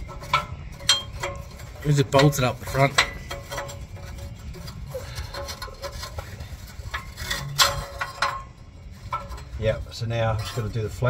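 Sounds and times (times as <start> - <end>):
exhaust pipe clanking: 0.0 - 11.0
metal knocking and rubbing: 0.0 - 11.0.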